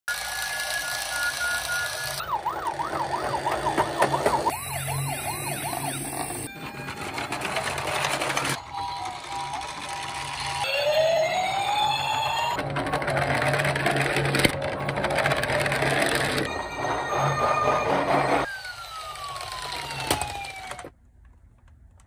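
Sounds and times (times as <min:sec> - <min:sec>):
toy electronic siren: 0:00.1 - 0:20.9.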